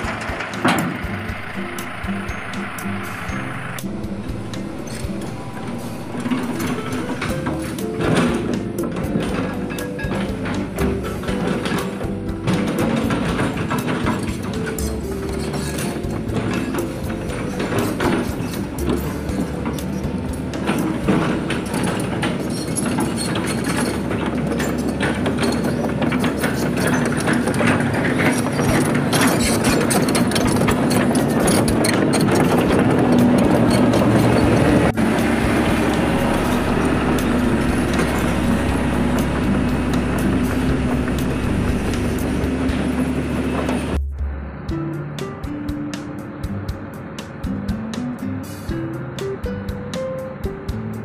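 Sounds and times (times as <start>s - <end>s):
steel track links clattering: 0.0s - 44.0s
excavator diesel engine running: 0.0s - 51.0s.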